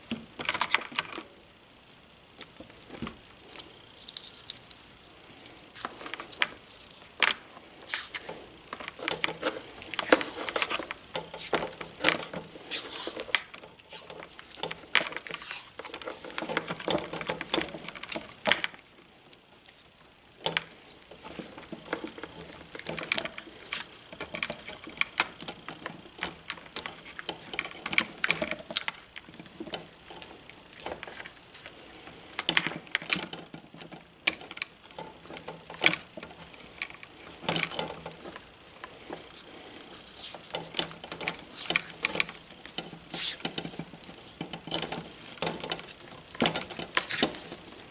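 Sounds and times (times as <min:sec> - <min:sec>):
hands handling wire cable: 0:02.4 - 0:47.9.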